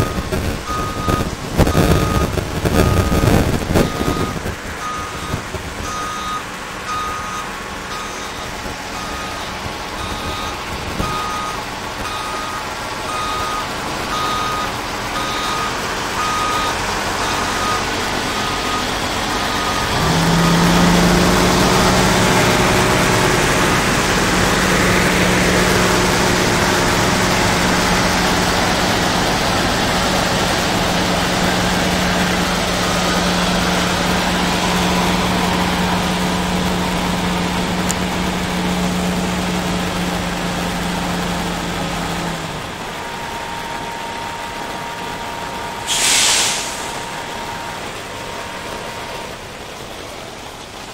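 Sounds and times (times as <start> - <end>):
reversing alarm beeping: 0.0 - 29.6, 31.2 - 37.4, 42.3 - 48.6
truck diesel engine running: 0.0 - 50.9.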